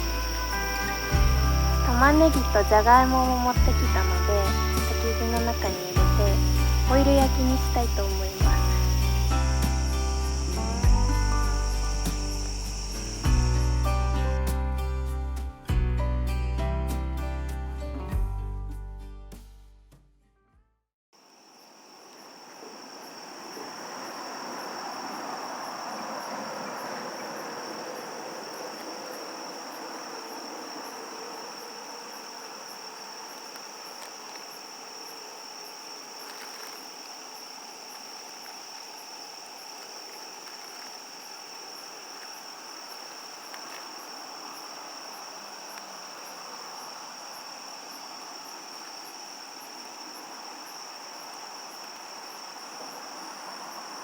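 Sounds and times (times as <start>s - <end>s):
insects trilling: 0.0s - 14.9s, 21.2s - 54.0s.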